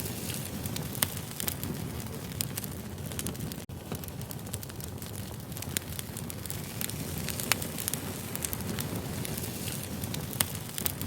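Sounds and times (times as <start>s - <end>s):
low rumble of burning logs: 0.0s - 11.0s
wood fire crackling: 0.0s - 11.0s.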